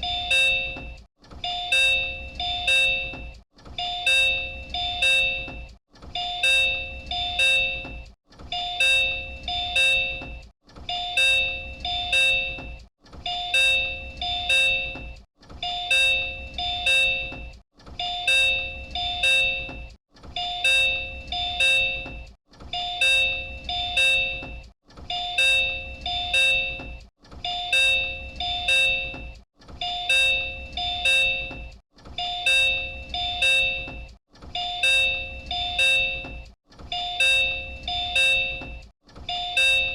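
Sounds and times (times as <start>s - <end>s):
electronic door chime: 0.0s - 39.9s.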